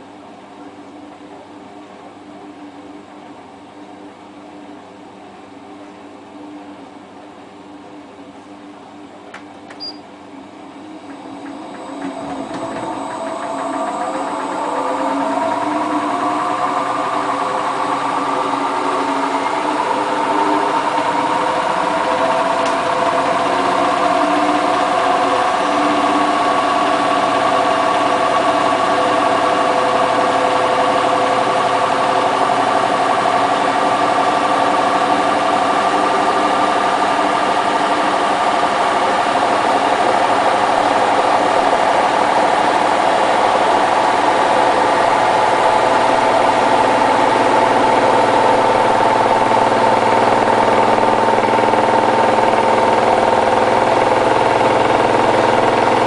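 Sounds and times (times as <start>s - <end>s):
washing machine spin whine: 0.0s - 56.0s.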